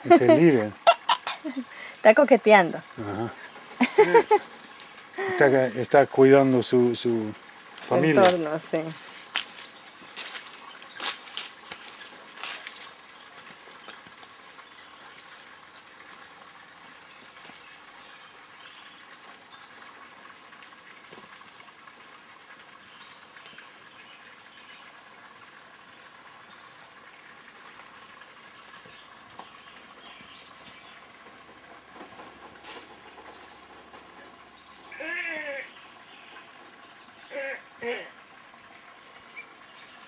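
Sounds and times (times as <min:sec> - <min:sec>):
insect chirps and ticks: 0:00.0 - 0:40.0
insects droning: 0:00.0 - 0:40.0.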